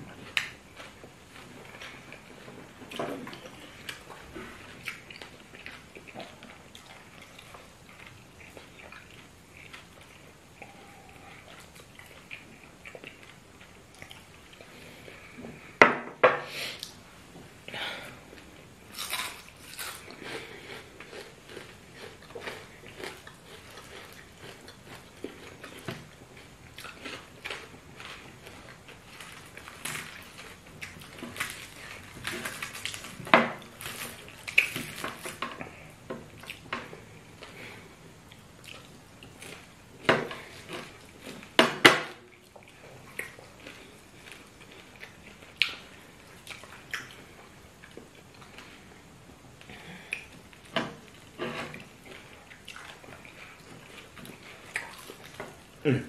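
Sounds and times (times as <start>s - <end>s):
people chewing: 0.0s - 15.8s, 17.6s - 41.6s, 42.3s - 49.0s, 49.6s - 56.0s.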